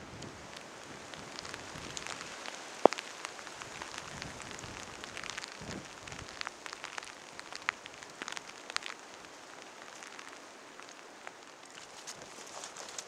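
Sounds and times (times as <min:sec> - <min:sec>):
raindrops ticking sharply: 0:00.0 - 0:12.2
soft hiss of rain: 0:00.0 - 0:13.0.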